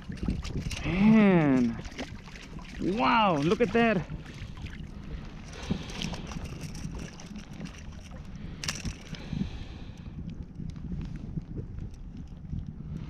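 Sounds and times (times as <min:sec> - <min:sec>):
water splashing and sloshing: 0:00.0 - 0:11.2
wind on microphone: 0:00.0 - 0:13.0.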